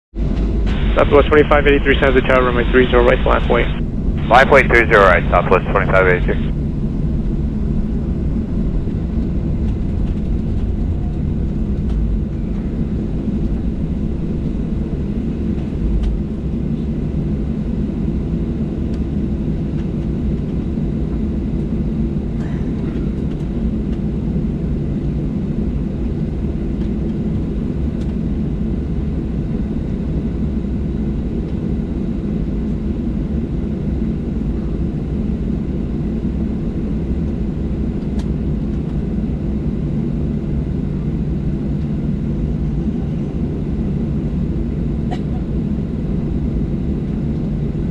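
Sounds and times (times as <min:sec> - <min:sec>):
jet engines idling in cabin: 0:00.2 - 0:47.9.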